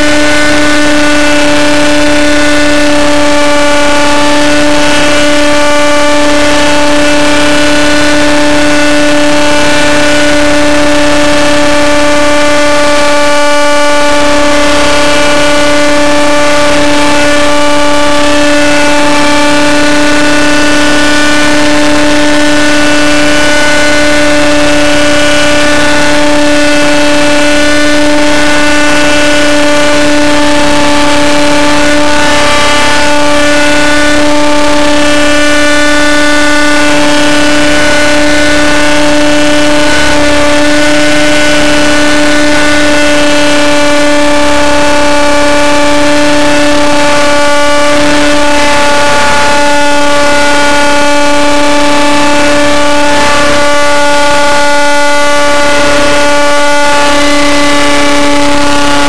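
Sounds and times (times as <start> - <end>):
rc helicopter engine and rotor whine: 0.0 - 59.0.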